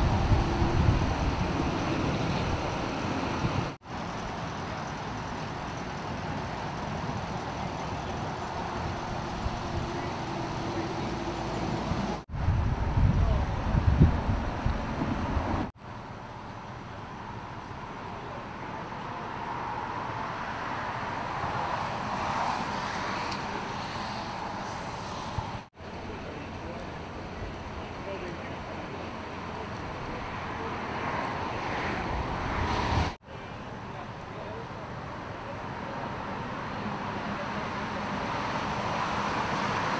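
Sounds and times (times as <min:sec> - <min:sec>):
vehicle passing: 0:00.0 - 0:15.7, 0:17.9 - 0:33.2, 0:34.0 - 0:39.9
road traffic rumble: 0:00.0 - 0:39.9.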